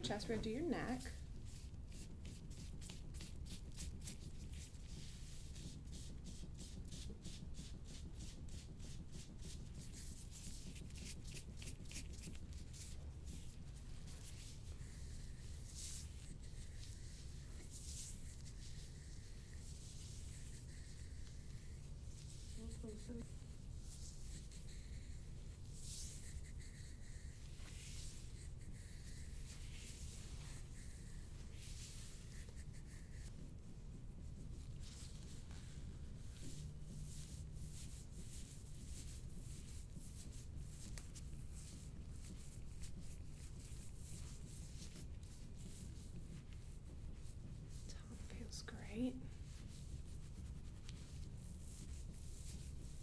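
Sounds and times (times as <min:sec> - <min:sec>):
low room hum: 0:00.0 - 0:53.0
rubbing strokes over skin: 0:00.0 - 0:53.0.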